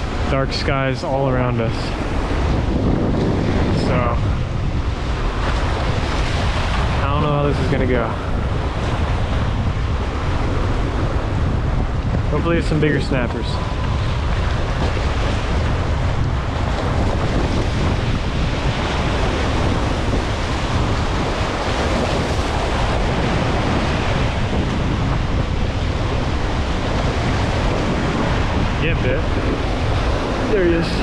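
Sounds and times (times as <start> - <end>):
ocean surf: 0.0 - 31.0
wind buffeting microphone: 0.0 - 31.0.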